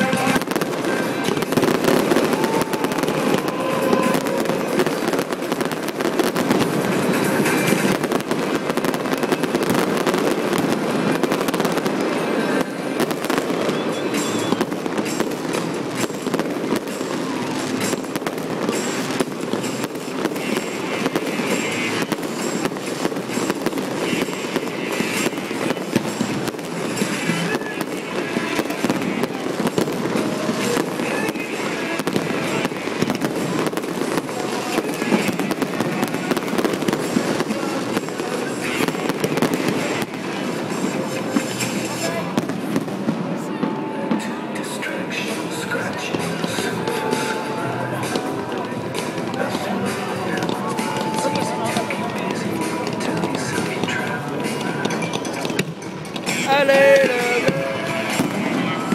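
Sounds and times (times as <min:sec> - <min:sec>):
fireworks bursting and crackling: 0:00.0 - 0:58.9.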